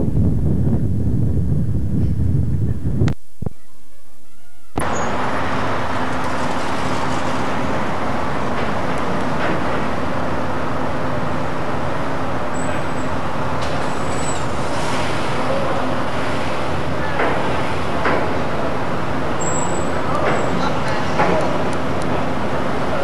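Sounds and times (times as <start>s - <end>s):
rumble of engines and traffic: 0.0s - 3.6s, 4.7s - 23.0s.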